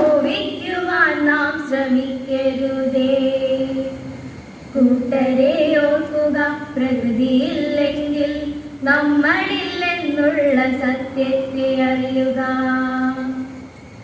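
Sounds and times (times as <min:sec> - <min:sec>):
girls singing unaccompanied: 0:00.0 - 0:04.1, 0:04.8 - 0:13.4.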